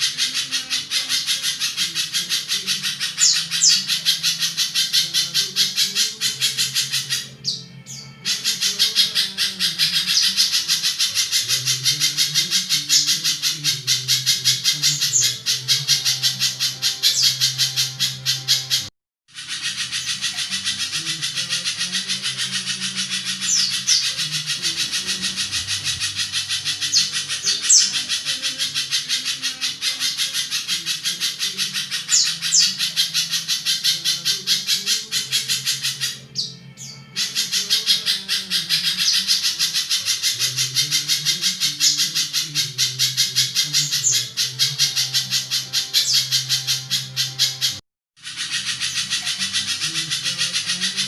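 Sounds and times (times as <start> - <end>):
bird harsh chattering call: 0.0 - 51.0.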